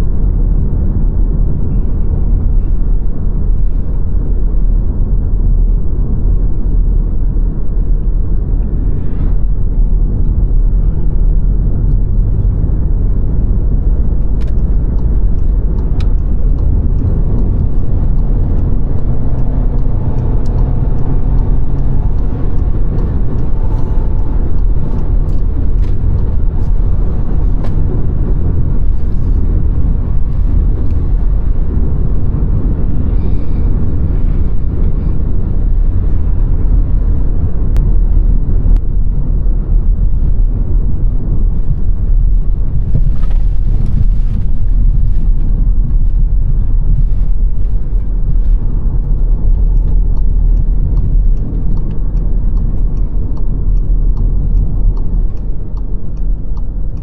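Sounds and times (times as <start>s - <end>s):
car engine hum: 0.0s - 57.0s
road and tyre rumble: 0.0s - 57.0s.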